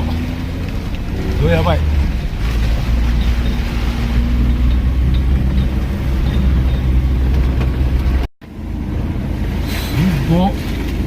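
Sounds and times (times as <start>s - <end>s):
strong wind buffeting a car: 0.0s - 9.7s
engine and road noise rumble: 0.0s - 11.0s.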